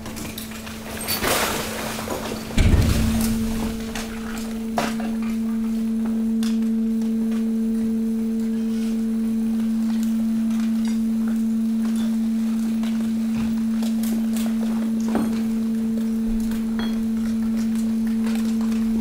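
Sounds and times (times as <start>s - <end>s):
hydraulic pump humming: 1.6s - 19.0s.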